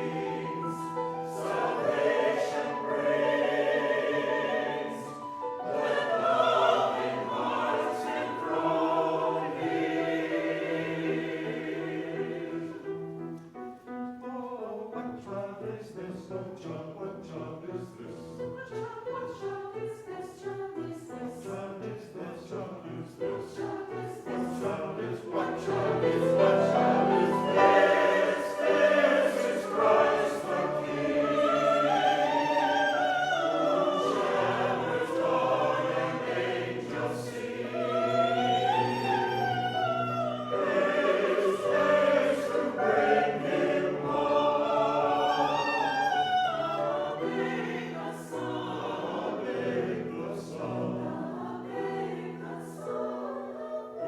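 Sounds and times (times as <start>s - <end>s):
church choir singing in parts: 0.0s - 54.0s.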